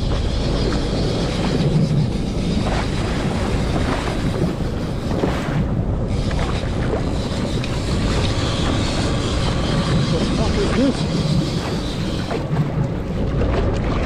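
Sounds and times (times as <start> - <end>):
boat motor running: 0.0 - 14.0
water rushing along hull: 0.0 - 14.0
wind buffeting microphone: 0.0 - 14.0.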